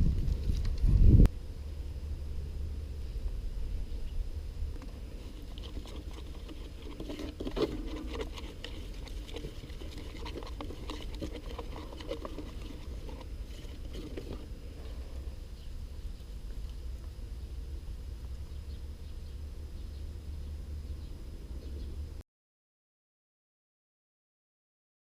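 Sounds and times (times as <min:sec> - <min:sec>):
steady low rumble: 0:00.0 - 0:22.2.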